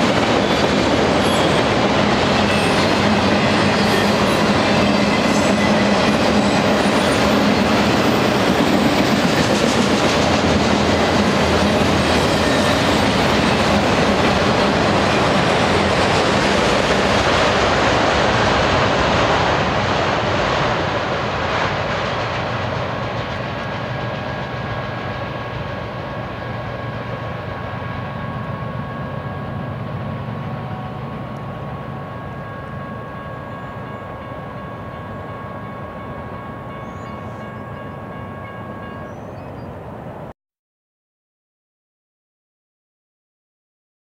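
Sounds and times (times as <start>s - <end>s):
freight train rumble and rattle: 0.0s - 40.2s.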